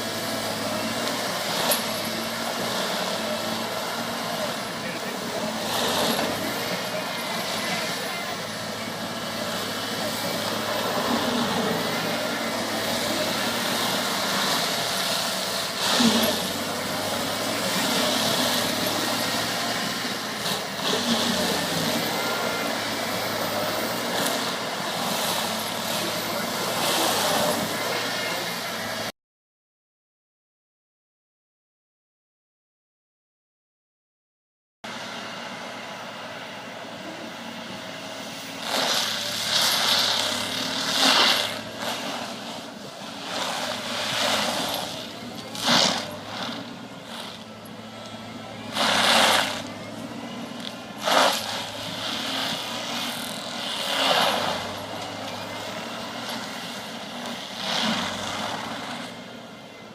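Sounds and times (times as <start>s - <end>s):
forestry mulcher running: 0.0s - 29.1s, 34.9s - 59.9s
mulcher head grinding wood: 0.0s - 29.1s, 36.2s - 59.9s.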